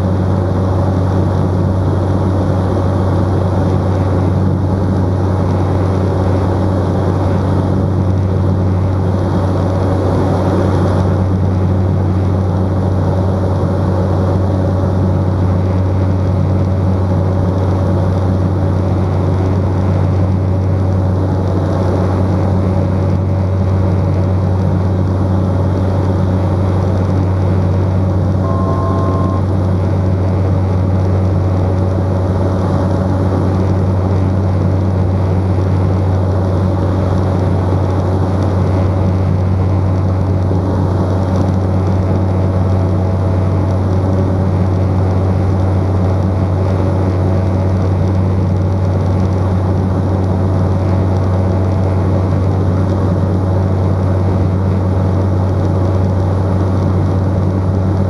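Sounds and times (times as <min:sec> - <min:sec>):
turboprop engine droning: 0:00.0 - 0:58.0.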